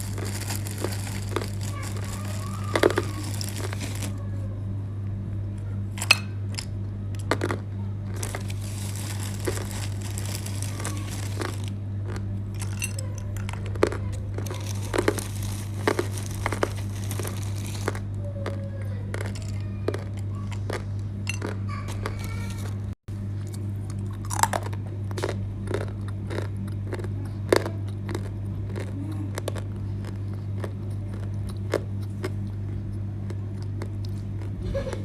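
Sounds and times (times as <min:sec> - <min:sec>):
crunching while chewing: 0:00.0 - 0:04.2, 0:05.8 - 0:35.0
low electrical hum: 0:00.0 - 0:35.0.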